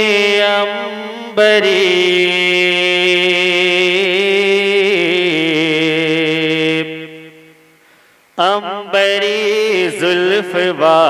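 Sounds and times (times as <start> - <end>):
man singing long held notes: 0.0 - 7.7, 8.4 - 11.0.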